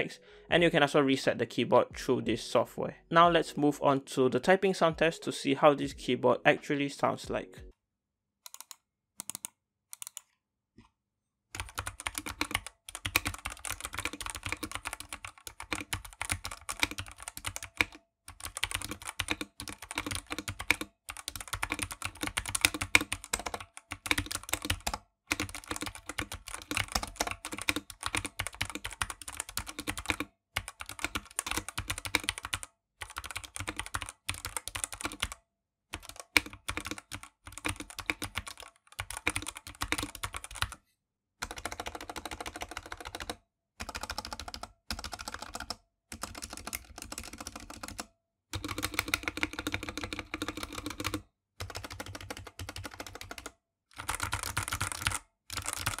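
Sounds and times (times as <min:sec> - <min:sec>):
mechanical keyboard typing: 0:08.5 - 0:10.3, 0:11.6 - 0:35.4, 0:36.0 - 0:40.8, 0:41.4 - 0:56.0.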